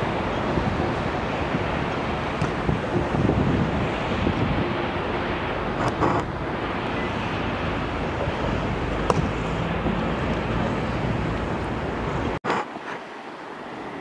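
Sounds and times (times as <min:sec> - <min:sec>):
distant jet airliners taxiing: 0:00.0 - 0:12.4.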